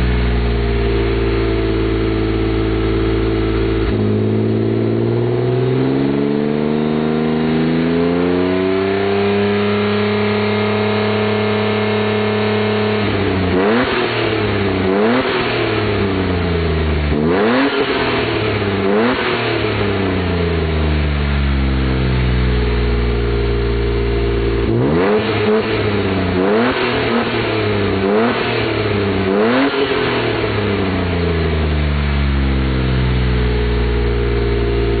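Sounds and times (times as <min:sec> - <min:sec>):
car engine throttle blips: 0:00.0 - 0:35.0.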